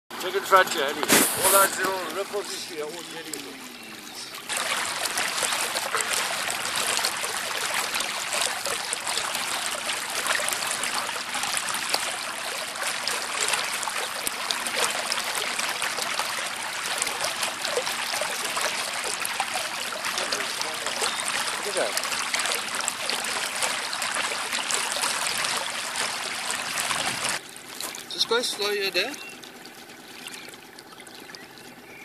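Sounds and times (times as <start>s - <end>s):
water rushing along boat hull: 0.2s - 32.0s.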